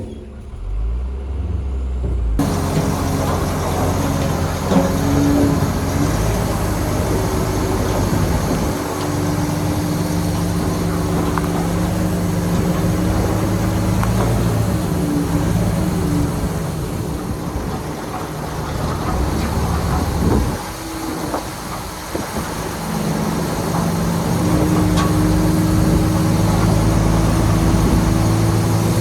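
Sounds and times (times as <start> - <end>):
diesel machinery engine rumbling: 0.0 - 29.0.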